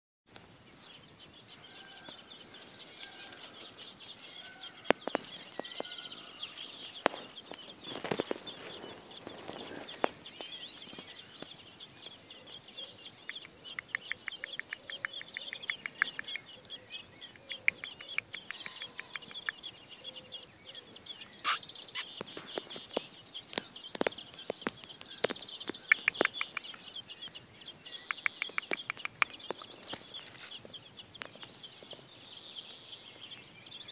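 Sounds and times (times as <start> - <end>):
nestlings begging calls: 0.8 - 33.9.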